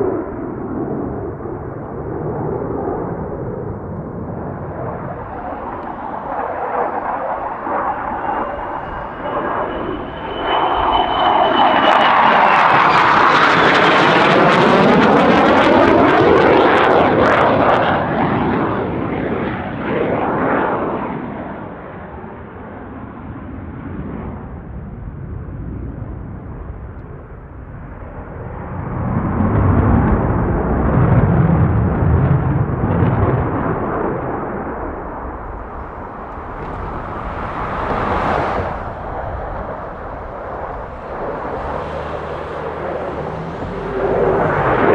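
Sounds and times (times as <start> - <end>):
deeper jet rumble: 0.0 - 44.9
military jet flying past: 0.0 - 44.9.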